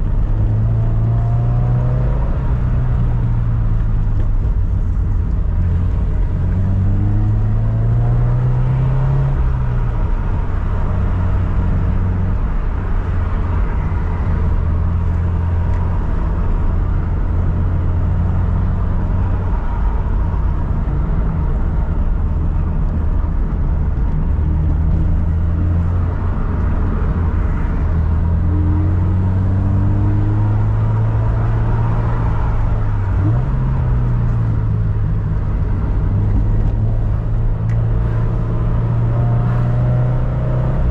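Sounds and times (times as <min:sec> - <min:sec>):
road noise: 0:00.0 - 0:40.9.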